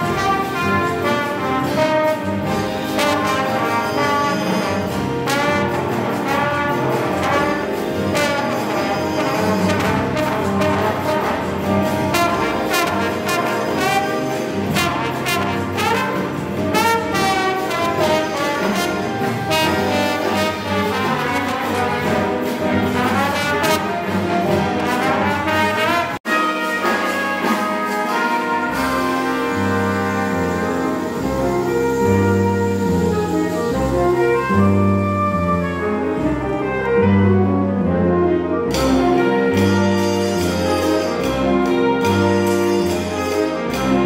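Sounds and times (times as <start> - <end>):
jazz big band playing: 0.0 - 44.0
trombones and trumpets: 0.0 - 44.0.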